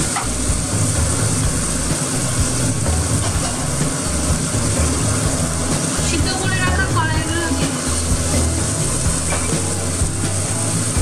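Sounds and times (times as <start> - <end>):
low even rumble: 0.0 - 11.0
potatoes sizzling in oil: 0.0 - 11.0.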